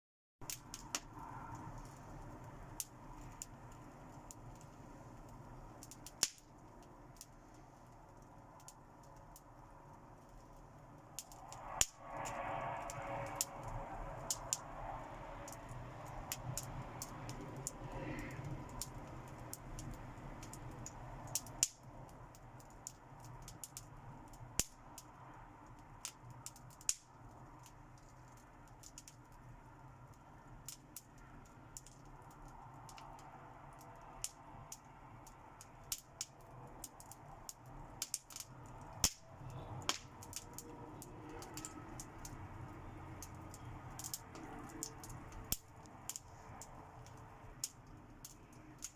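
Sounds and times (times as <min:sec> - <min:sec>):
fire crackling and popping: 0:00.4 - 0:48.9
low steady hiss: 0:00.4 - 0:48.9.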